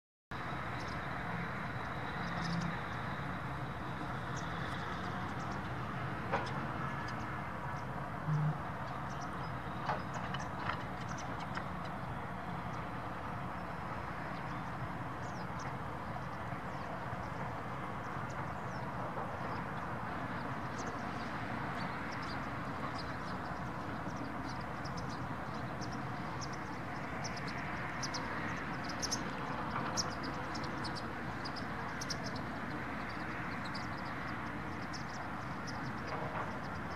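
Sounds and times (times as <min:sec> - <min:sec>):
distant traffic hum: 0:00.3 - 0:36.9.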